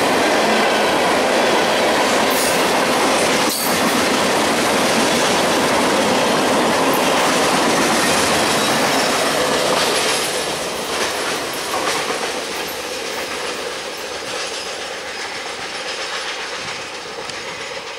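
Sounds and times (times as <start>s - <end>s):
freight train wheels rumbling: 0.0s - 17.9s.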